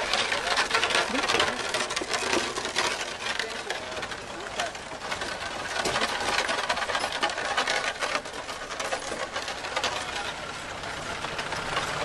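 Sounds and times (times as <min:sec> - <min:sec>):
cart wheels clattering: 0:00.0 - 0:12.0
ox hooves on road: 0:00.0 - 0:12.0.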